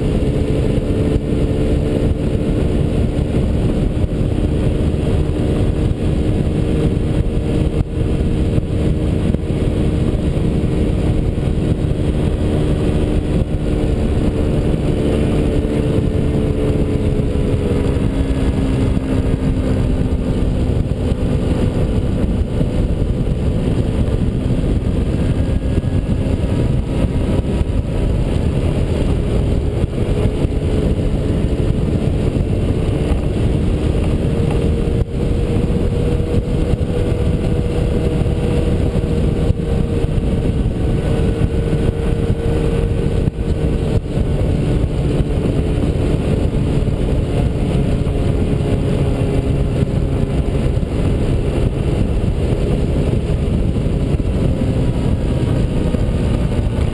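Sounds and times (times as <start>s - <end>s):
scooter engine cruising: 0.0s - 56.9s
wind rush on microphone: 0.0s - 56.9s.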